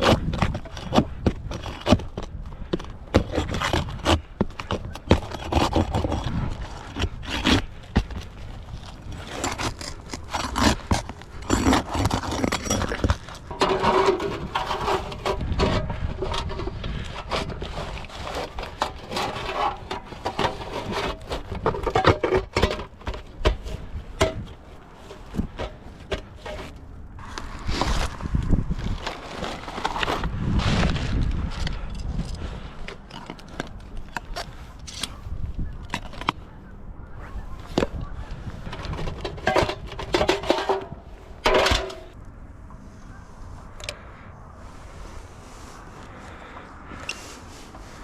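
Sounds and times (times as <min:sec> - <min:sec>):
scraping on a roof: 0:00.0 - 0:35.2, 0:37.6 - 0:42.2.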